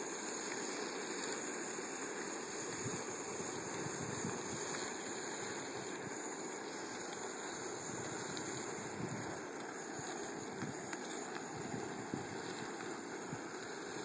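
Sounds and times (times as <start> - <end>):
camp stove burner running: 0.0 - 14.0.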